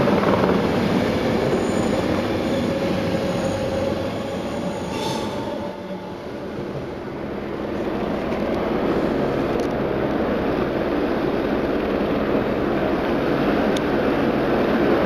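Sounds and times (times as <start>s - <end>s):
locomotive mechanical rumble: 0.0s - 14.5s.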